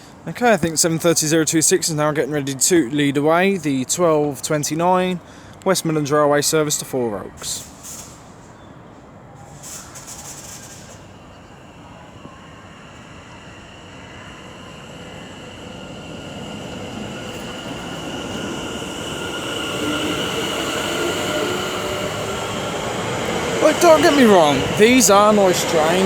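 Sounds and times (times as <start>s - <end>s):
electric train whining: 0.0s - 26.0s.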